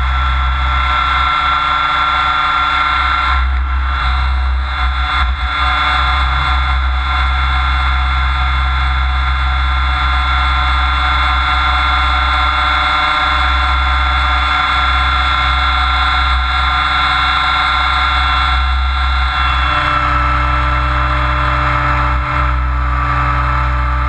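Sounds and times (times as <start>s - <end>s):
motor and gears whining: 0.0s - 24.0s
rotor low hum: 0.0s - 24.0s.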